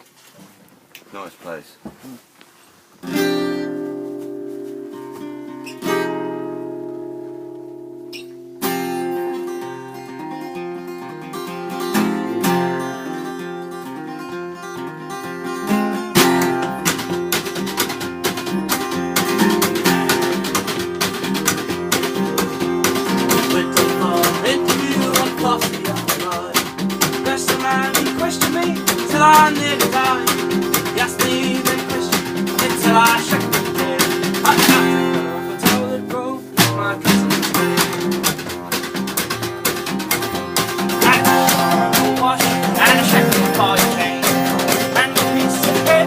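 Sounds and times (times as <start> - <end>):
acoustic guitar strumming: 3.0 - 46.0.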